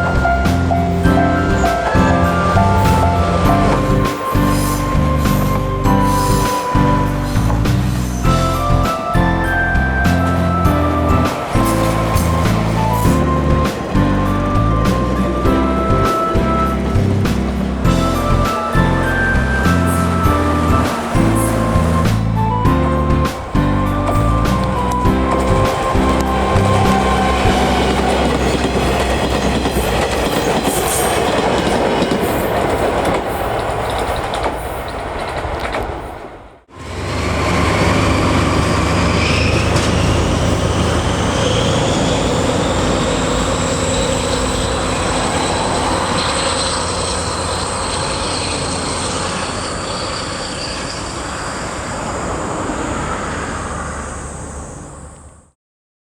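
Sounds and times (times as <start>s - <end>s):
train wheels clattering on track: 0.0s - 53.1s
rising train whine: 0.0s - 55.6s.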